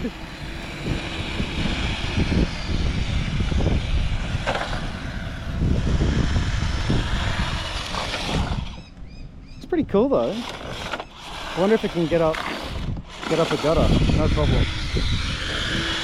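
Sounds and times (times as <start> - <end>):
small electric motor whining: 0.0 - 9.1, 10.2 - 16.0.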